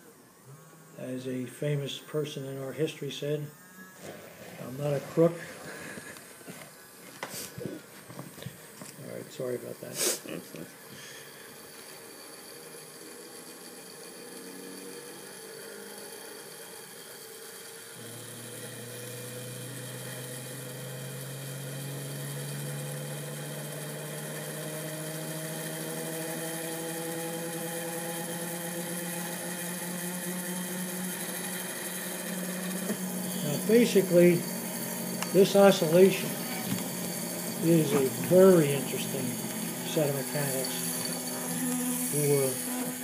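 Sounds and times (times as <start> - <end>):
gyroscope whirring hum: 0.0 - 43.0.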